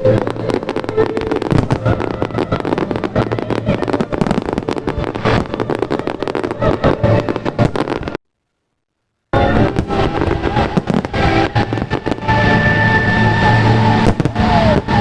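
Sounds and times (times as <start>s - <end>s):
fireworks banging and crackling: 0.0s - 8.2s, 9.4s - 15.0s.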